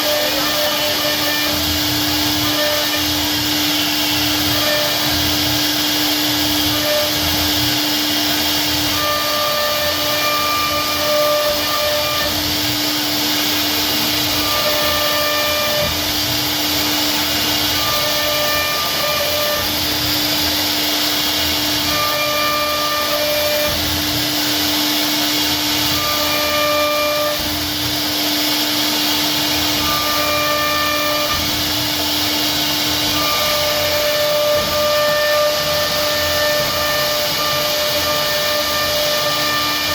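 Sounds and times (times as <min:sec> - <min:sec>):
high machine whine: 0:00.0 - 0:39.9
router cutting wood: 0:00.0 - 0:39.9.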